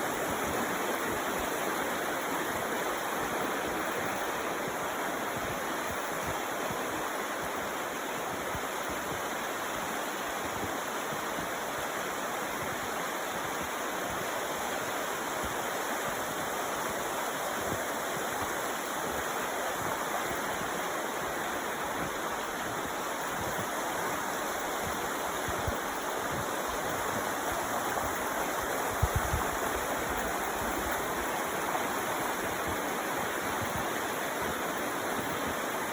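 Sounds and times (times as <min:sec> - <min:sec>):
creek water flowing: 0:00.0 - 0:35.9.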